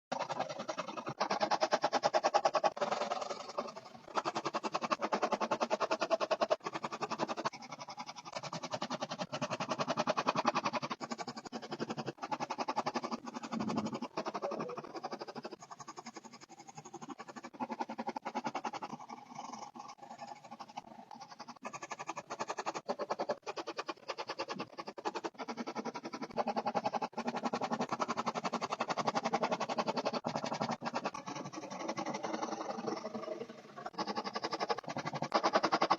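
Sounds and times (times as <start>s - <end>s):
pencil scratching on paper: 0.1s - 35.9s.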